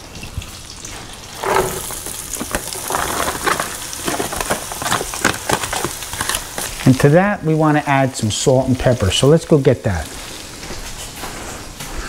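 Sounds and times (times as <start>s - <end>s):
onions sizzling in a pan: 0.0s - 11.8s.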